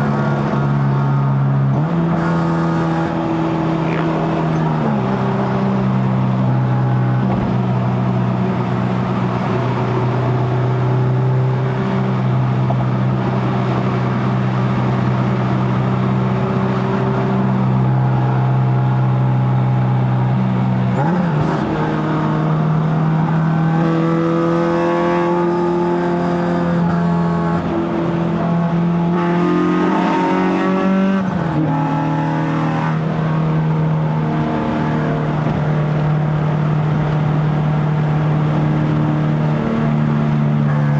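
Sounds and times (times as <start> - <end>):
car engine droning at cruise: 0.0 - 40.9.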